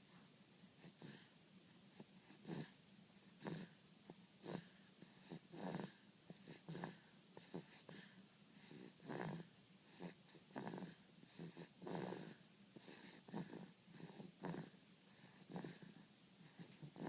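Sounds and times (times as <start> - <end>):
baby snoring: 0.8 - 1.3, 1.9 - 2.8, 3.4 - 3.8, 4.4 - 17.0.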